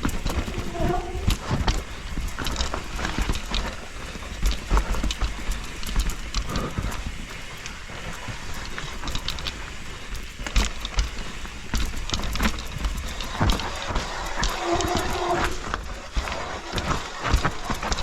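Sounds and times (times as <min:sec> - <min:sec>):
bike tyres rumbling over ground: 0:00.0 - 0:18.0.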